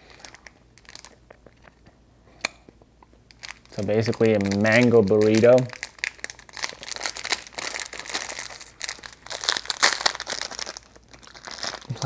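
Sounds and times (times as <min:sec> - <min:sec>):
plastic wrapper crinkling: 0:00.0 - 0:01.9, 0:03.3 - 0:12.0.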